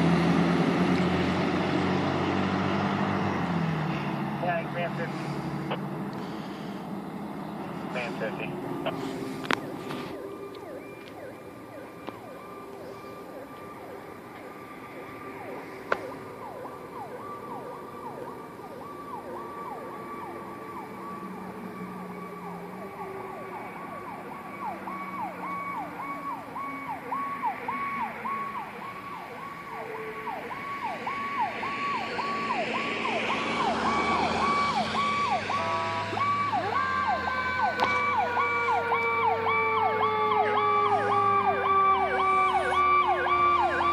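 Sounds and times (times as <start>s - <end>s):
low engine rumble: 0.0s - 35.5s
fire engine siren yelping: 0.0s - 43.9s.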